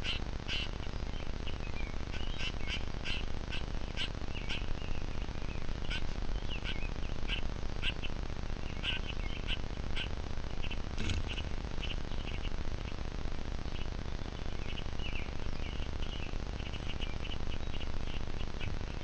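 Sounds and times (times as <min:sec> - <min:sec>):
birds calling: 0:00.0 - 0:13.0, 0:13.6 - 0:19.0.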